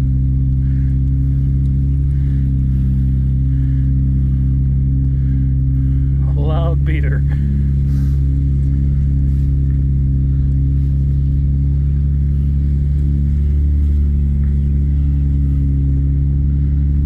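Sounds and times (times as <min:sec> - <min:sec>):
car engine droning in cabin: 0:00.0 - 0:17.0.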